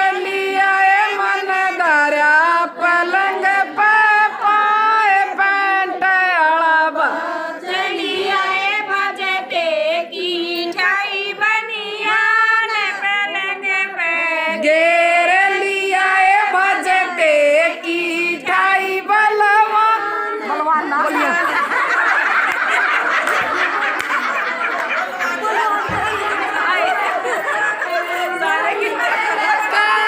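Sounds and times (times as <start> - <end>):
women singing folk song: 0.0 - 21.6, 25.3 - 30.0.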